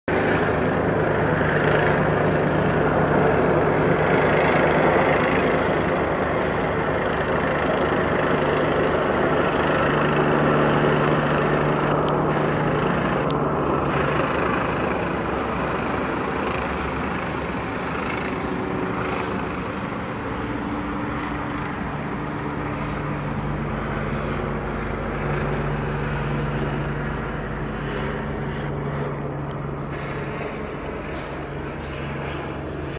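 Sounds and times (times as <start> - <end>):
helicopter rotor drone: 0.1 - 32.9.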